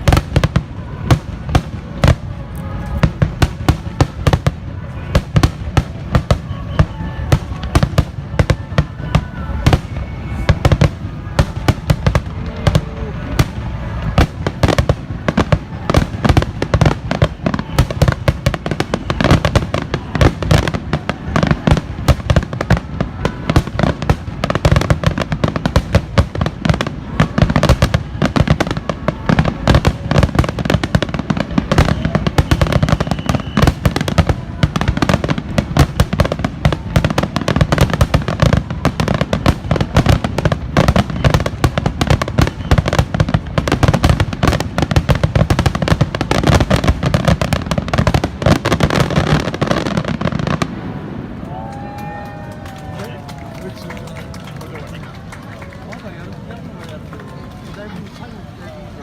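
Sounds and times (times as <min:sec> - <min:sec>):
fireworks booming and crackling: 0:00.0 - 0:59.0.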